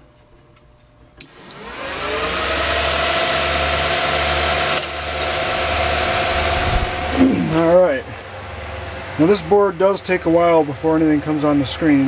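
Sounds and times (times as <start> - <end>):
server cooling fans whirring: 0.0 - 12.0.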